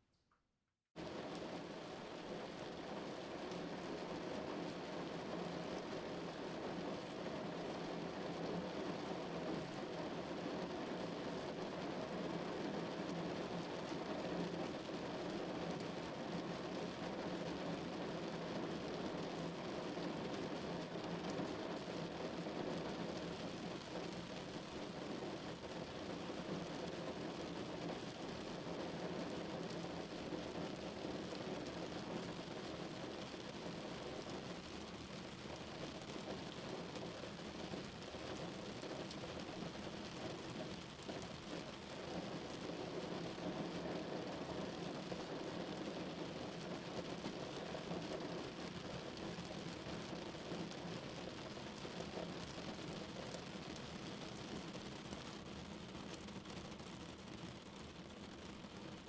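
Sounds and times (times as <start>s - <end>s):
rain on a car roof: 1.0s - 59.0s.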